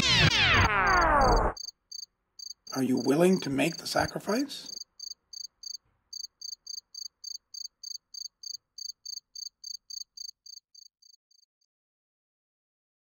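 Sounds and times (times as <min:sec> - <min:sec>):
cricket chirping: 0:00.9 - 0:11.5.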